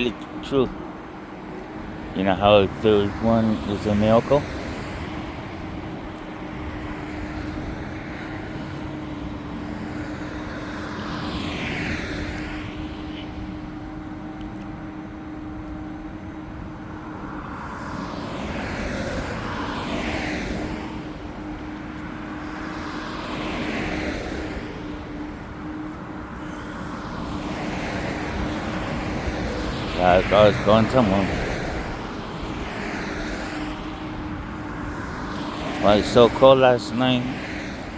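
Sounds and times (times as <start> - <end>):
car engine and tyre drone: 0.0 - 37.9
vehicles swooshing past: 0.0 - 37.9.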